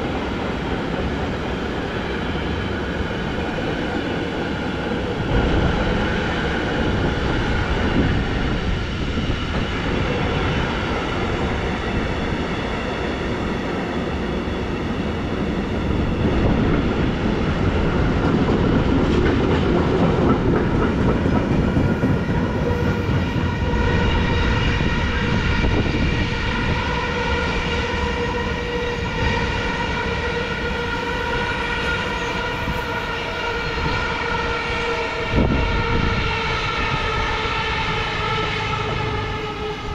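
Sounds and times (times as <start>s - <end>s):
train wheels on track: 0.0s - 39.9s.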